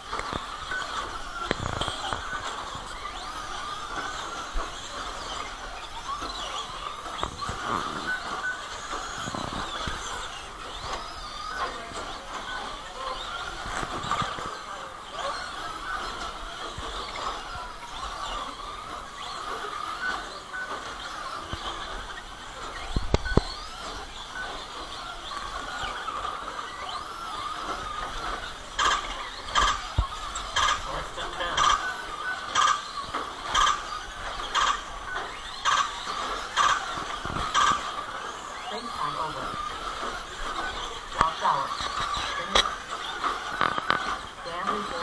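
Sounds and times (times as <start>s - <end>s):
electric motors whining: 0.0s - 45.0s.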